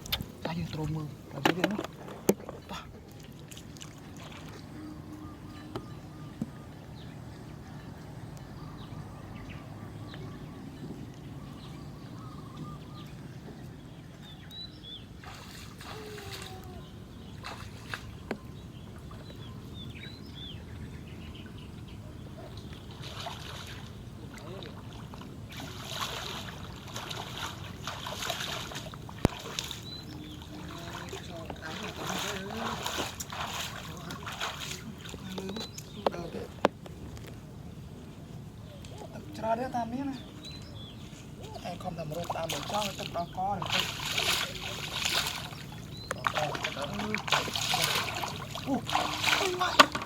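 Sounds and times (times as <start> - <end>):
floodwater splashing and trickling: 0.0 - 50.0.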